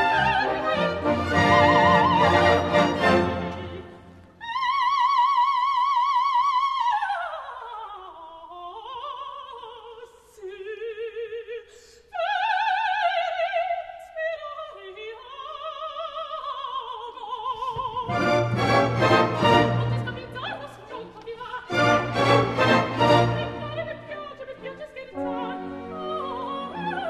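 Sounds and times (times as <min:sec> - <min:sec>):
soprano singing: 0:00.0 - 0:27.0.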